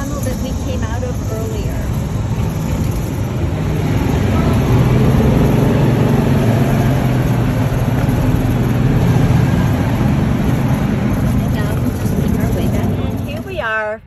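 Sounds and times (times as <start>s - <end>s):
golf cart driving low drone: 0.0s - 14.0s.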